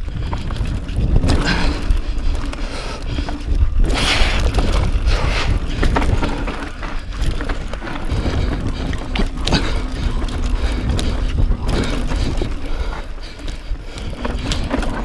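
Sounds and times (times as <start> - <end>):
bike clattering over rocks: 0.0 - 15.0
wind buffeting the microphone: 0.0 - 15.0.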